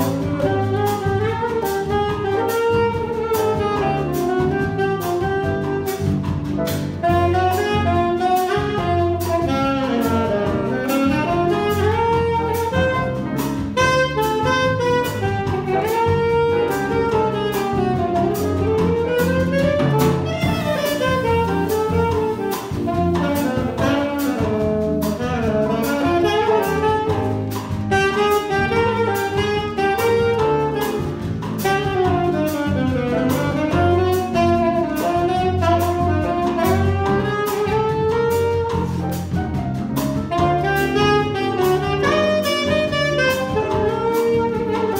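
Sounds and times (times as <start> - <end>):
alto saxophone melody: 0.0 - 44.9
drum cymbal pattern: 0.0 - 44.9
jazz combo playing bossa nova: 0.0 - 44.9.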